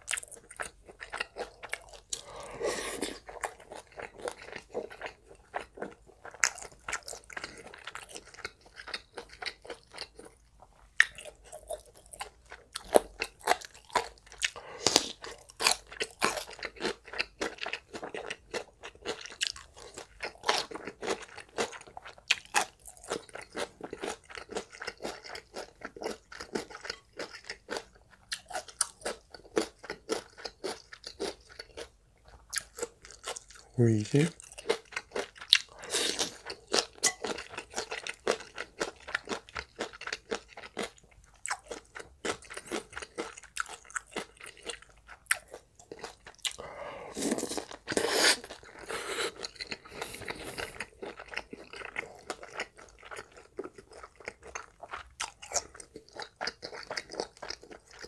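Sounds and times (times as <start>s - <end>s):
close chewing and crunching: 0.0s - 58.0s.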